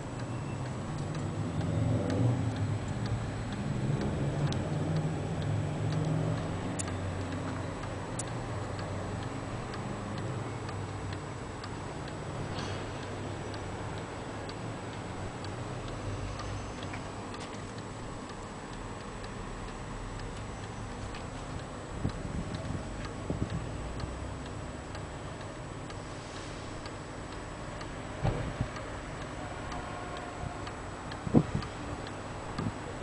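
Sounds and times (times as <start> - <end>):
wall clock ticking: 0.0 - 12.5, 13.1 - 26.0, 26.8 - 33.0.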